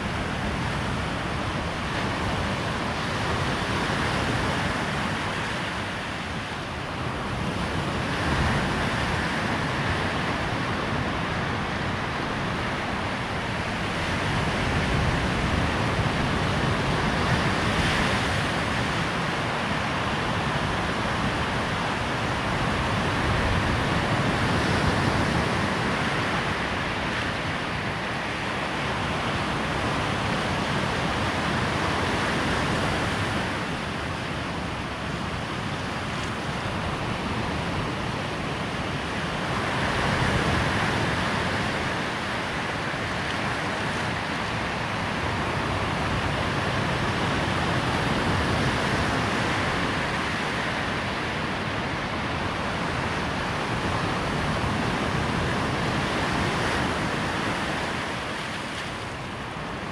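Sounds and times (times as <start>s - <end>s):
waves breaking on a shore: 0.0s - 59.9s.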